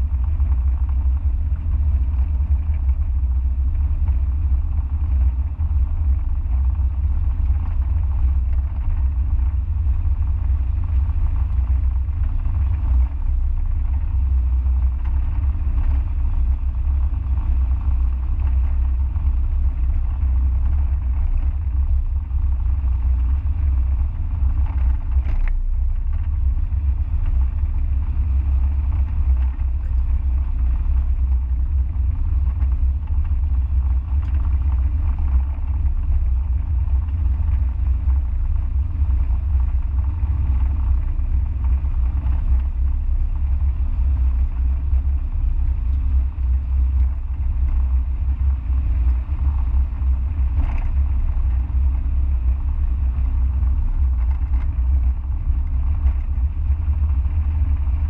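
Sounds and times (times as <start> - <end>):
car engine rumble: 0.0 - 58.0.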